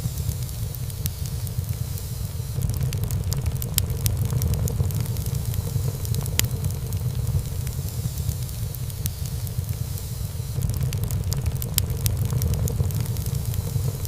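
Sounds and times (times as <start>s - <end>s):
fire crackling: 0.0s - 14.0s
fire rumbling: 0.0s - 14.0s.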